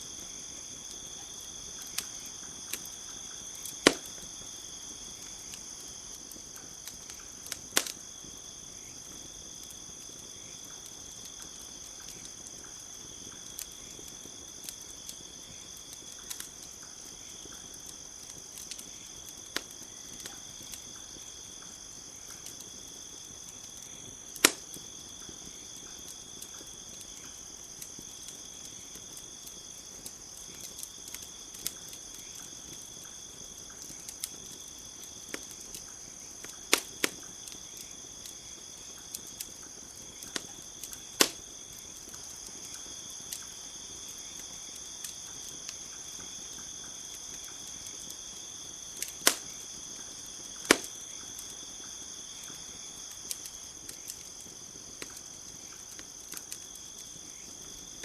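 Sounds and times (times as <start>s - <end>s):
campfire crackling and popping: 0.0s - 58.0s
crickets chirring: 0.0s - 58.0s.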